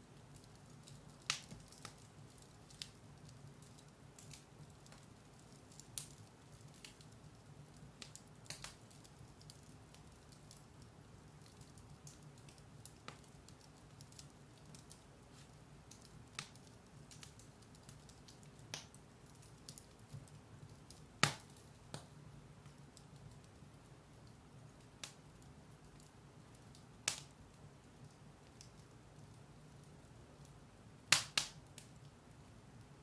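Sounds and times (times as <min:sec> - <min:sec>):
fire crackles and pops: 0:00.0 - 0:33.0
low steady fire: 0:00.0 - 0:33.0.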